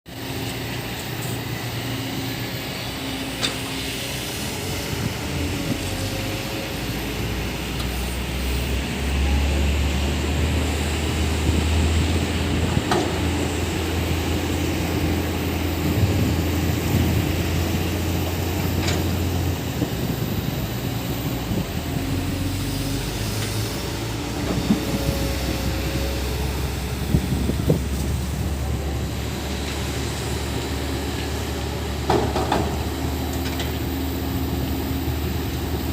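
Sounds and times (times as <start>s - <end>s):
heavy diesel engine humming: 0.1s - 35.9s.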